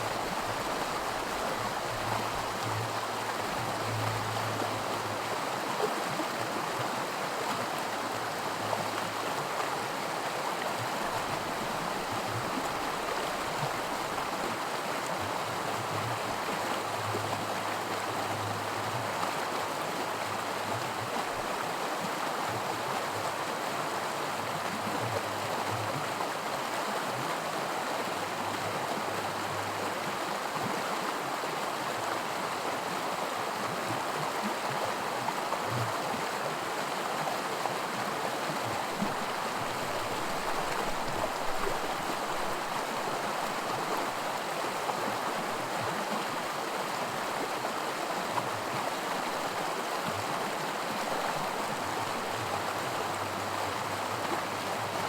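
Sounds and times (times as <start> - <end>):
water rushing over rocks: 0.0 - 21.8, 26.0 - 55.0.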